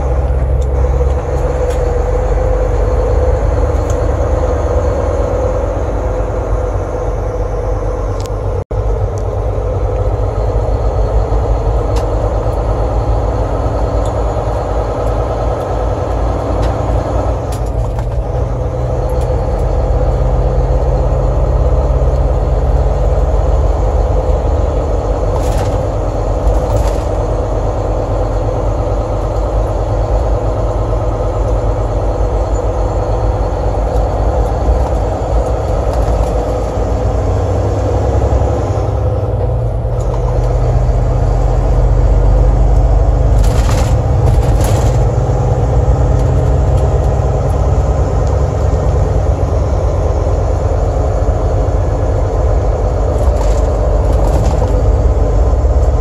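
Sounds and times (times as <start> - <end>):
truck engine rumble: 0.0 - 56.0.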